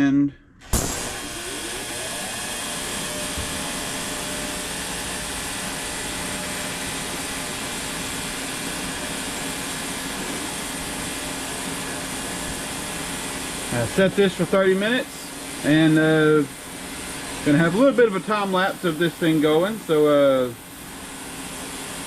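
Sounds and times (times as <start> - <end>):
ultrasonic cleaner hissing buzz: 0.6 - 22.0.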